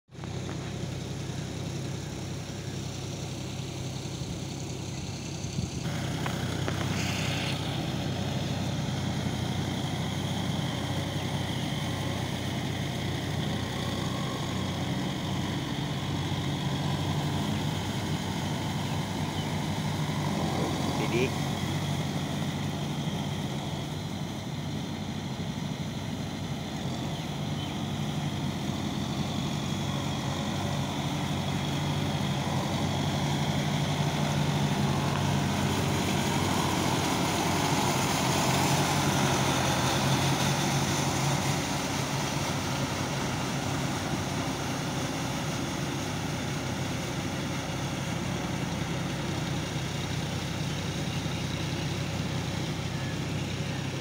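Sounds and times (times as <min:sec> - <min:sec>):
tractor diesel engine running: 0:00.1 - 0:54.0.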